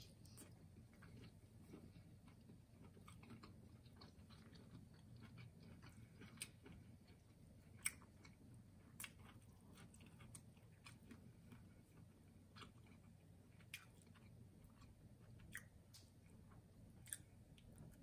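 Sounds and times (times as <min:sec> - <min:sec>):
chewing with wet mouth clicks: 0:00.2 - 0:18.0.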